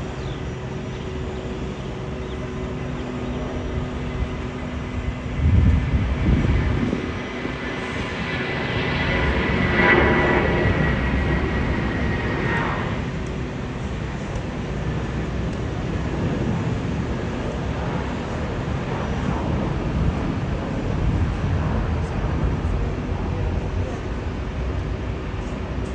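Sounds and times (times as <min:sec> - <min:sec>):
jet airliner passing: 0:00.0 - 0:25.9.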